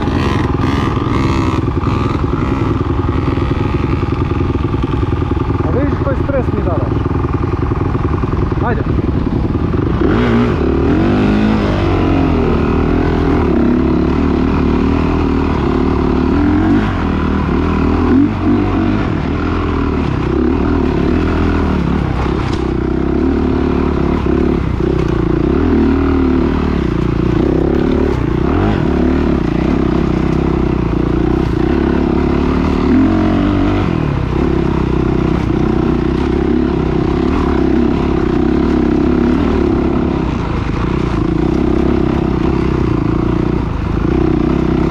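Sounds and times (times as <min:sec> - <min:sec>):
motocross bikes revving: 0:00.0 - 0:44.9.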